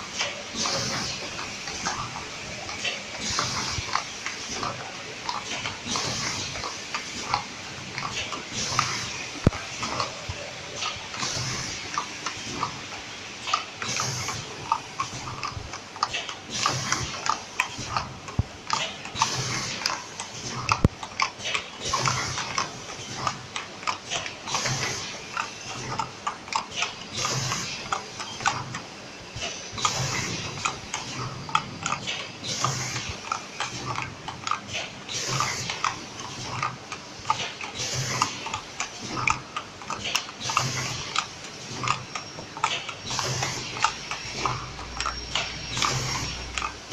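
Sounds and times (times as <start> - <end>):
machine hiss: 0.0 - 46.9.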